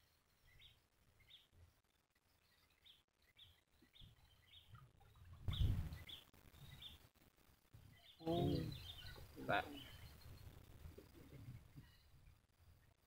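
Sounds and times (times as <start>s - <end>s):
faint outdoor background: 0.0s - 13.0s
small bird chirping: 0.0s - 13.0s.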